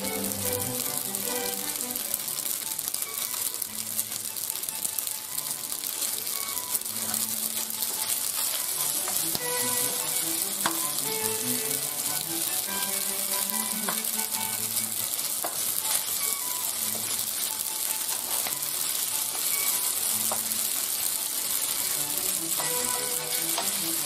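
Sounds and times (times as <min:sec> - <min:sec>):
food sizzling in frying pan: 0:00.0 - 0:24.0
wooden spoon stirring in pan: 0:00.0 - 0:24.0.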